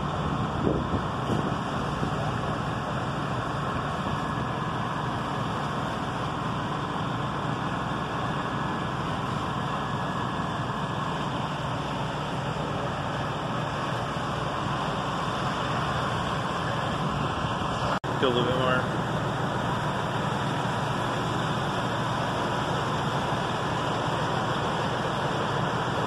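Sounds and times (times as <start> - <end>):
idling engines and street traffic: 0.0 - 26.0.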